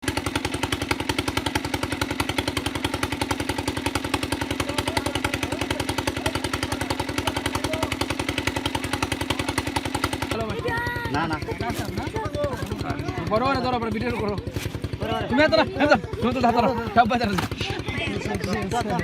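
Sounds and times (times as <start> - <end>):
pump engine chugging: 0.0 - 19.0.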